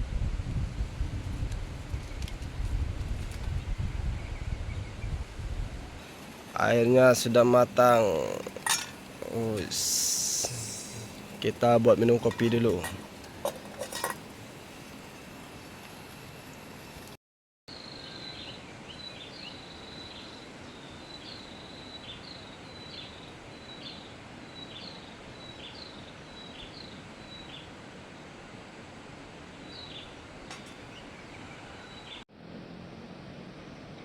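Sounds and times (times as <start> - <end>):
steady forest hiss: 0.0 - 34.0.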